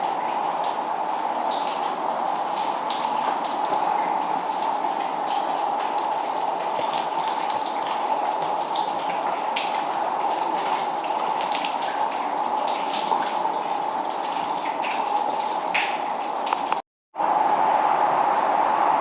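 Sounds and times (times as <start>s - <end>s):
water drips and splashes: 0.0s - 16.8s
water running in a cave: 0.0s - 16.8s.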